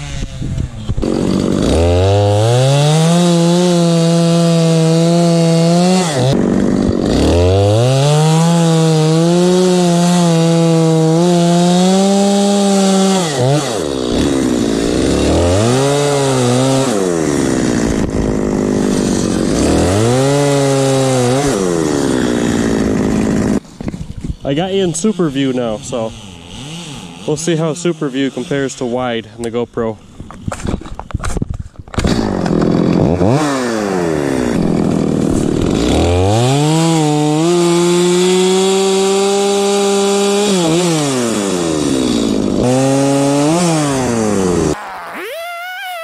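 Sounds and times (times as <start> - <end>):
chainsaw cutting log: 0.0 - 46.0.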